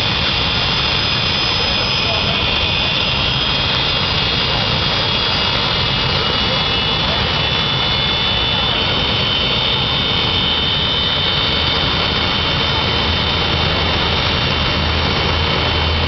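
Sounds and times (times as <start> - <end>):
high turbine whine: 0.0 - 16.0
turbine engine rushing: 0.0 - 16.0.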